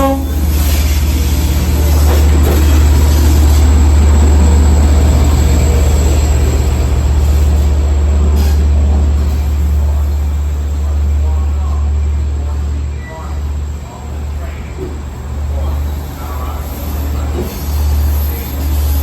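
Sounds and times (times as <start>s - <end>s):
low diesel rumble: 0.0s - 19.0s
train wheels on rail: 0.0s - 19.0s.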